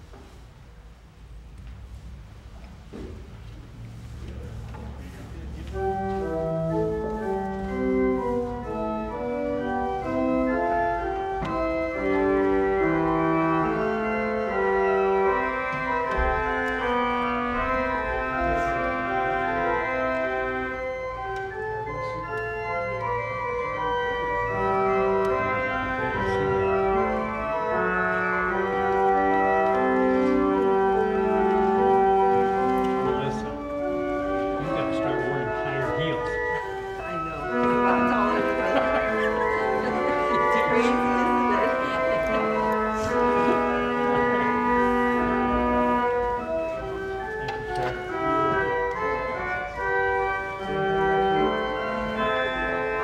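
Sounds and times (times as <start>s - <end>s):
church organ playing chords: 5.0s - 53.0s.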